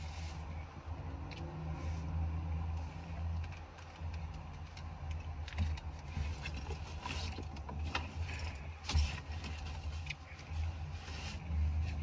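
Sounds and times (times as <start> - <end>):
low car cabin hum: 0.0 - 12.0.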